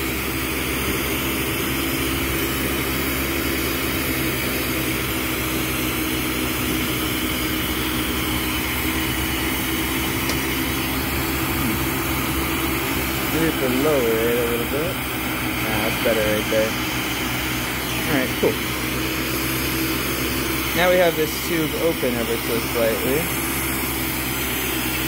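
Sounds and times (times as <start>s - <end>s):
torch burning with a hiss: 0.1s - 25.0s
low hum: 0.4s - 23.6s.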